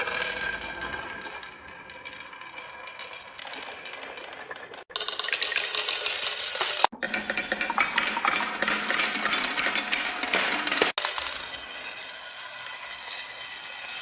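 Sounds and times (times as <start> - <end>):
marbles clattering down marble run: 0.0 - 14.0.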